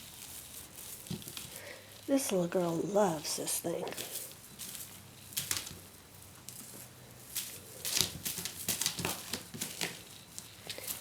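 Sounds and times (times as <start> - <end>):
claws scratching and rustling: 0.0 - 11.0.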